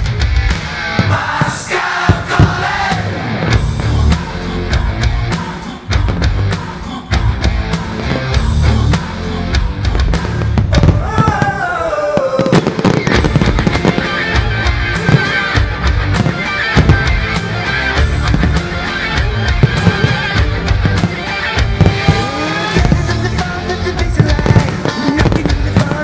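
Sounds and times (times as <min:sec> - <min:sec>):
firework bursts and crackling: 0:00.0 - 0:26.0
loud music: 0:00.0 - 0:26.0.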